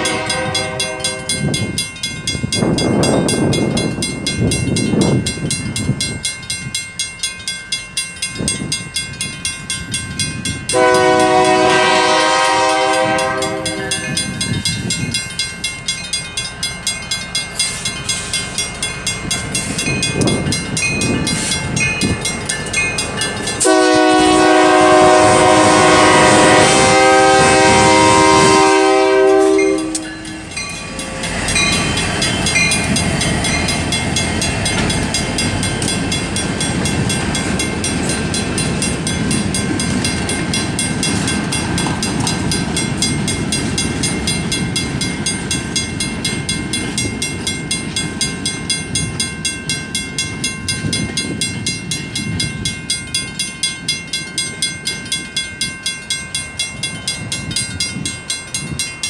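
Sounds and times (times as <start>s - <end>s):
crossing bells ringing: 0.0s - 59.0s
freight train rumbling over rails: 0.0s - 59.0s.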